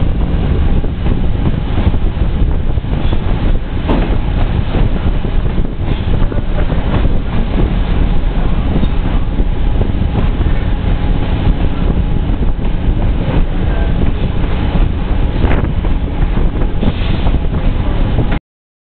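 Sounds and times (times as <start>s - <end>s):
train wheels rumbling on rails: 0.0s - 18.4s
wind buffeting microphone: 0.0s - 18.4s.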